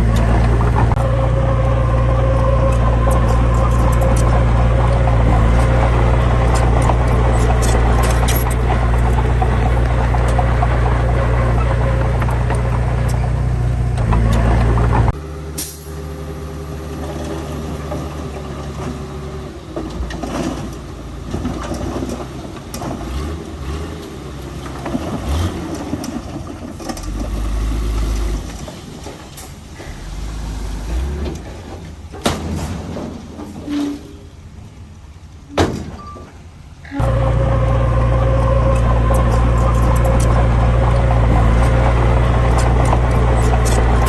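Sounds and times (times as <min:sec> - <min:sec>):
engine knocks: 0:00.0 - 0:34.9, 0:35.5 - 0:44.0
diesel machinery engine running: 0:00.0 - 0:44.0.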